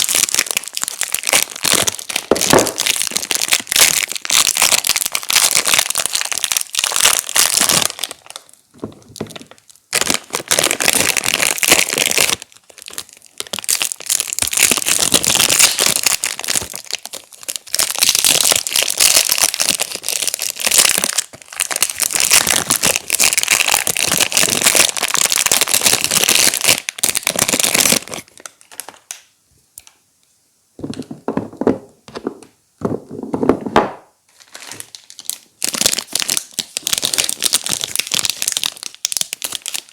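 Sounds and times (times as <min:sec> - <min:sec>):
wrappers crinkling and tearing: 0:00.0 - 0:08.6, 0:09.2 - 0:29.1, 0:34.3 - 0:39.9.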